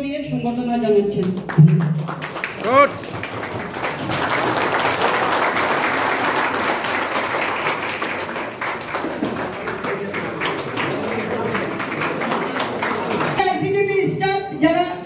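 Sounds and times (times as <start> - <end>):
audience applauding: 1.3 - 13.4.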